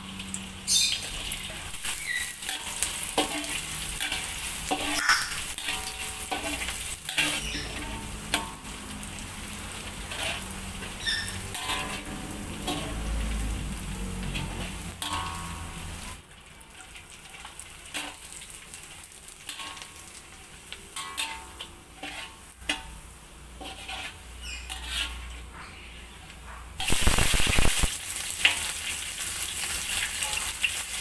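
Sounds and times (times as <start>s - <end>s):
crackers frying in oil: 0.0s - 31.0s
oil sizzling in a wok: 0.0s - 31.0s
metal spatula scraping wok: 0.7s - 31.0s.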